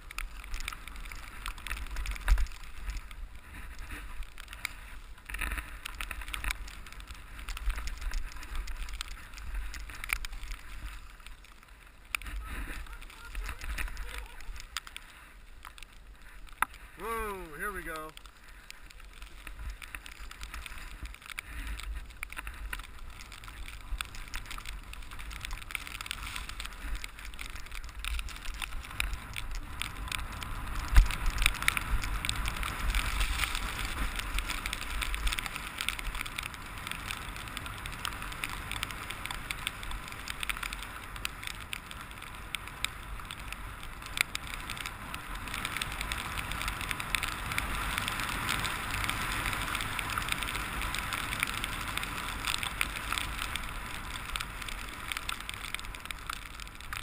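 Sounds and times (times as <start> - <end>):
rattles and clicks from bike: 0.0 - 57.0
skis hissing over snow: 0.0 - 57.0.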